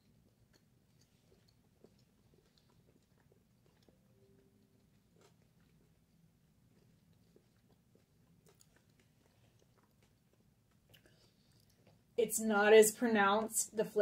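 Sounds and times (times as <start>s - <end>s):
faint chewing: 0.0s - 13.4s
low room hum: 0.0s - 14.0s.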